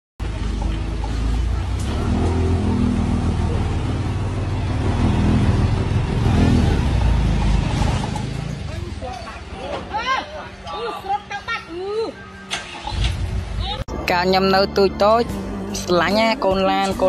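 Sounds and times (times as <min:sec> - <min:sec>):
diesel engine rumbling: 0:00.2 - 0:17.0.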